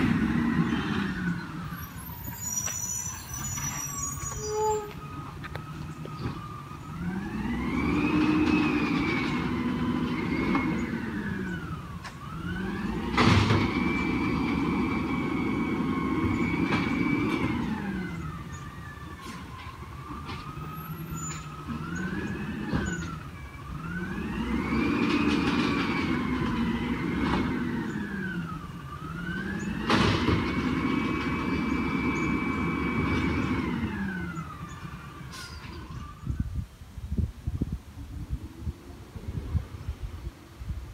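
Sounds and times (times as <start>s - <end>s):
diesel engine revving: 0.0s - 36.4s
hydraulic pump whine: 0.0s - 36.5s.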